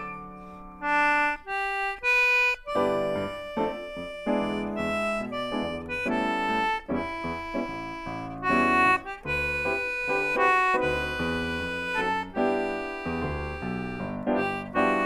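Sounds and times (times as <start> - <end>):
instrumental melody over bass line: 0.0 - 15.0.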